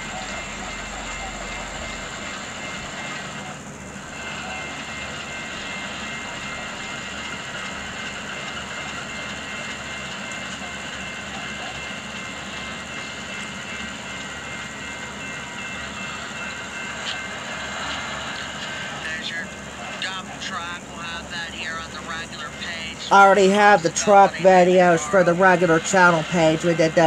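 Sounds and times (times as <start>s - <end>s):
diesel locomotive engine: 0.0s - 27.0s.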